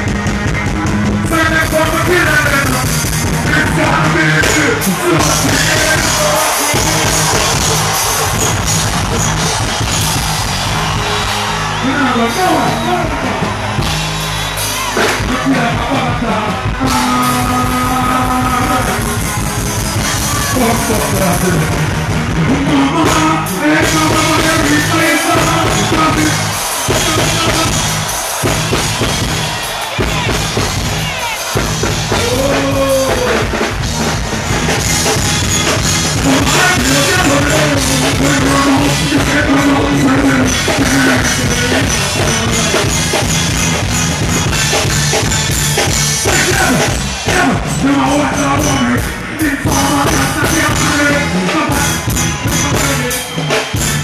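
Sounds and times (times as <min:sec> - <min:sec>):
heavy bass riddim: 0:00.0 - 0:54.0
deejay chanting and singing: 0:01.0 - 0:54.0.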